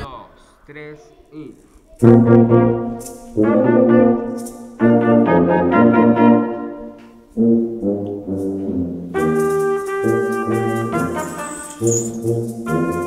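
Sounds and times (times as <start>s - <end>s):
brass ensemble playing loud chords: 2.0s - 13.0s.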